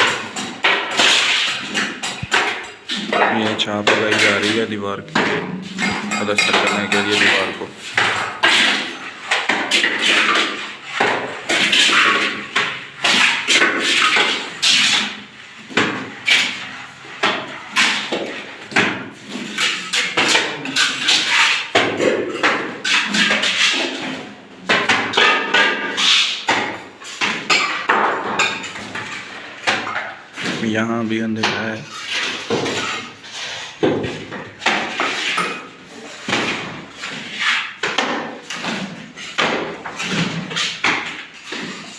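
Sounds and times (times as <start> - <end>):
trowels scraping and clinking: 0.0 - 30.6, 31.8 - 41.9.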